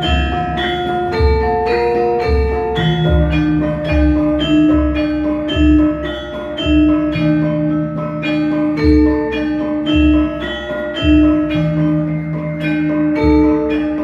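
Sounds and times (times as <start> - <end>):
metallophones ringing: 0.0 - 14.0.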